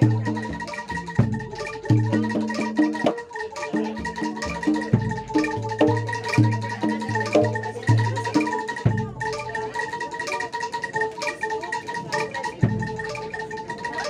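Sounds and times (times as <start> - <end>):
bronze metallophones ringing: 0.0 - 14.0.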